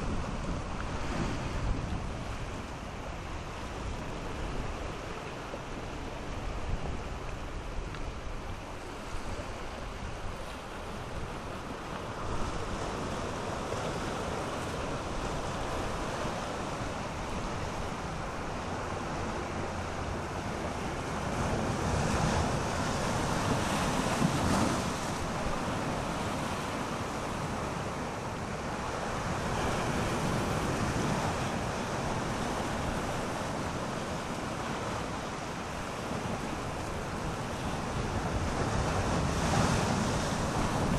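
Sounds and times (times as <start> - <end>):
waves breaking over rocks: 0.0 - 40.9
wind buffeting microphone: 0.0 - 40.9.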